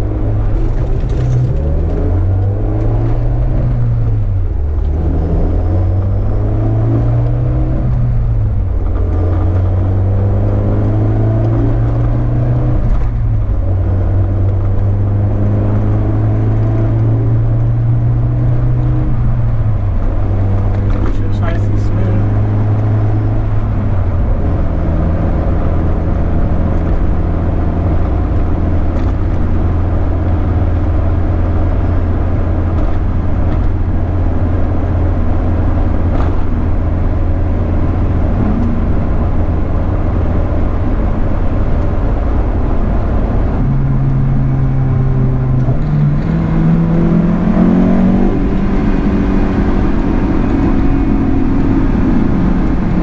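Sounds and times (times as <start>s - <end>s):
car engine cruising: 0.0s - 53.0s.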